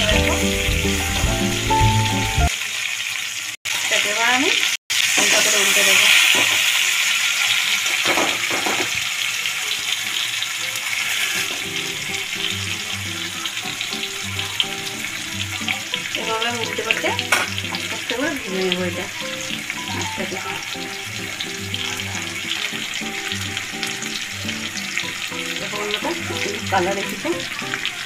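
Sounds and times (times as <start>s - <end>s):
oil sizzling around frying fish: 0.0s - 28.0s.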